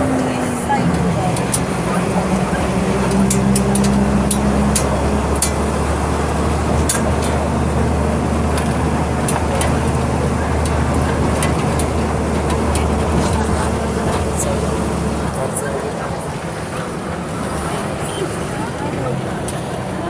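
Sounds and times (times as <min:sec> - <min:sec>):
bus diesel engine hum: 0:00.0 - 0:20.0
road noise: 0:00.0 - 0:20.0.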